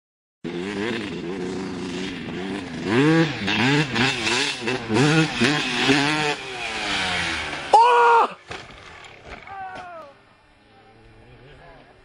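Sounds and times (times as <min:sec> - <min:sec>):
dirt bike engine revving: 0:00.4 - 0:11.4.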